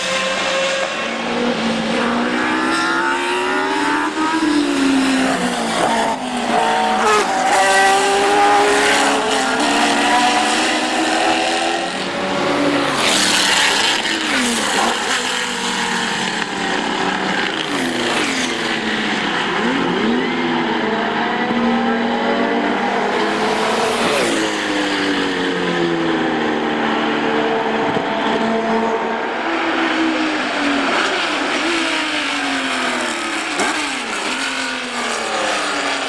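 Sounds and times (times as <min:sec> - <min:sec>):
racing cars passing: 0:00.0 - 0:36.0.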